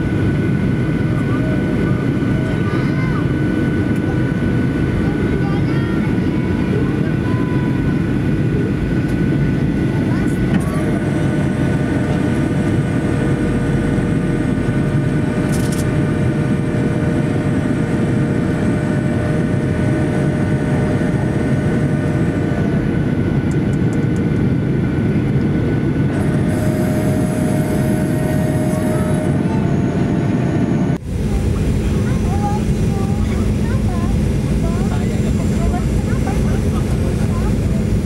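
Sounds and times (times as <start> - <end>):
engine whine: 0.0 - 38.0
jet engine roar in cabin: 0.0 - 38.0.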